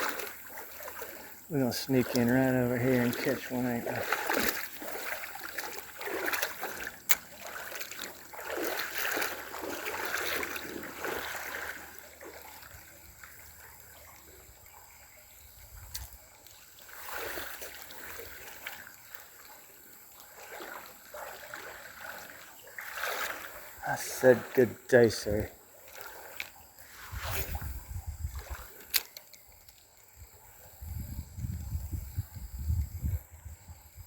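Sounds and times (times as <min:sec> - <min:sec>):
water splashing against boat: 0:00.0 - 0:30.4.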